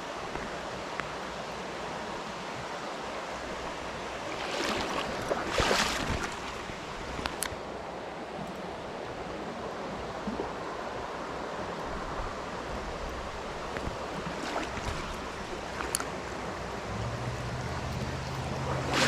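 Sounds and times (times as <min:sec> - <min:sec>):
water flowing: 0:01.3 - 0:07.6, 0:10.0 - 0:19.0.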